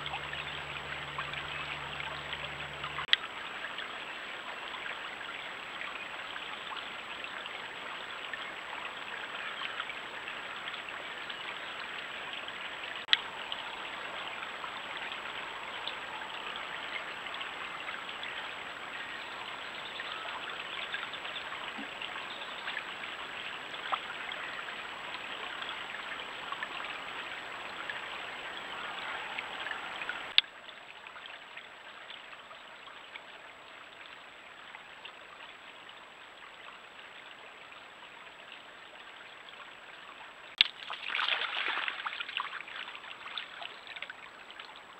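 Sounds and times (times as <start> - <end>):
stream trickling over stones: 0.0 - 44.9.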